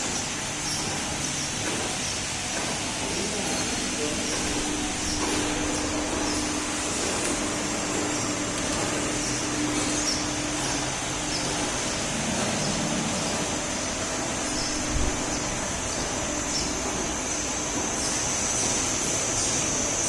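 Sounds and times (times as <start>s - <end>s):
machine humming with high whine: 0.0s - 20.0s.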